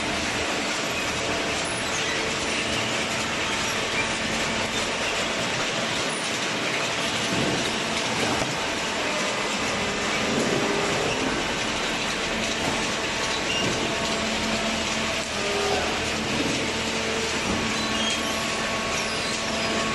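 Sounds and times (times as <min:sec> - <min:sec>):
hydraulic baler running: 0:00.0 - 0:19.9.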